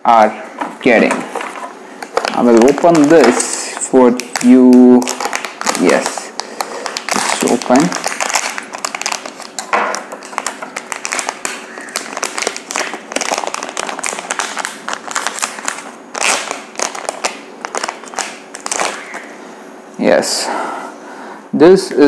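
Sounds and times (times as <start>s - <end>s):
plastic bag crinkling: 0.8s - 19.3s.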